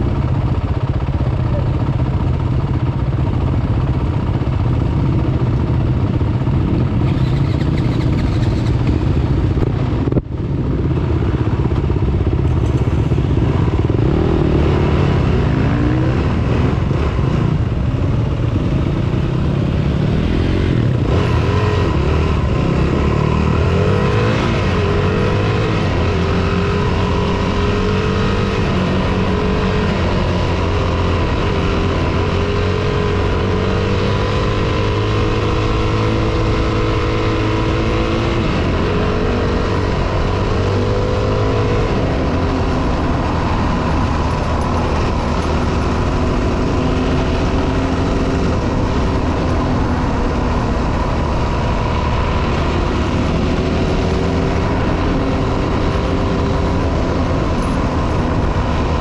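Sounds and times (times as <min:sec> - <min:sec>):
wind and tyre noise: 0:00.0 - 0:59.0.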